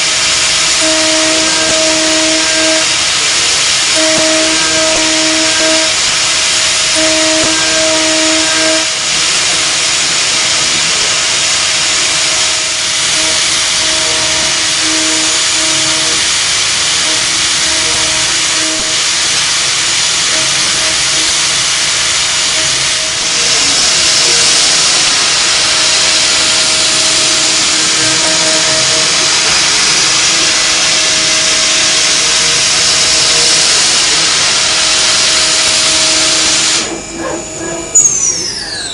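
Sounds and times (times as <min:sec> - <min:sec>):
milling machine cutting hiss: 0:00.0 - 0:38.9.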